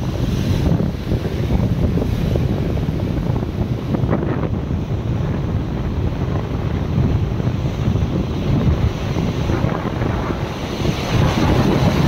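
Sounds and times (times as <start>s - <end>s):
surf breaking over rocks: 0.0s - 12.0s
wind rumble on microphone: 0.0s - 12.0s.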